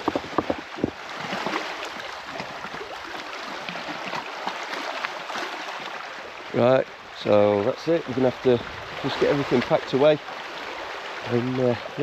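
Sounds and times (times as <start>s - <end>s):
small waves lapping: 0.0s - 12.0s.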